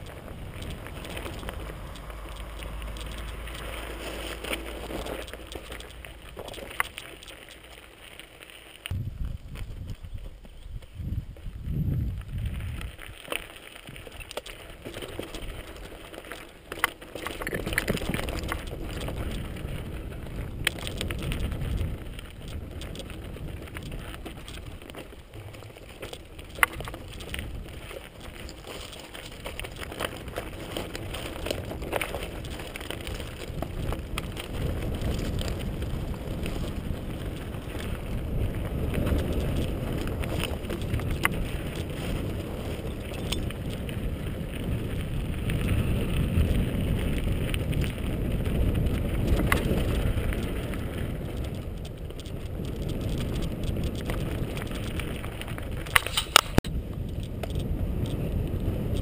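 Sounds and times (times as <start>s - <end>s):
wind buffeting microphone: 0.0s - 7.6s, 8.9s - 59.0s
bike frame rattling: 0.0s - 10.7s, 12.2s - 59.0s
bike tyres crunching over stones: 0.0s - 59.0s.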